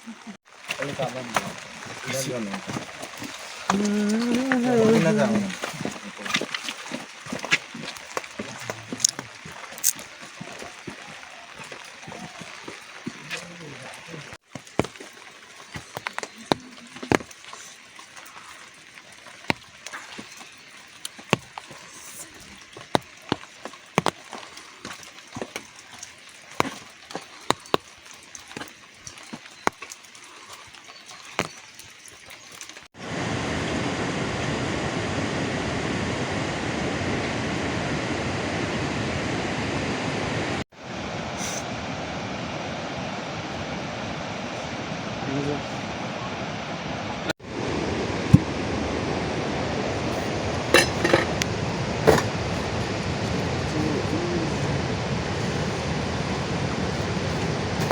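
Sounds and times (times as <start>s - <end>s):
rushing water: 0.0s - 57.9s.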